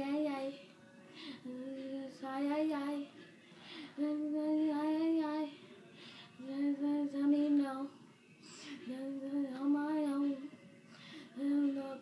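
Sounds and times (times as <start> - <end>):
boy singing: 0.0 - 3.2, 4.0 - 5.6, 6.4 - 10.6, 11.2 - 12.0.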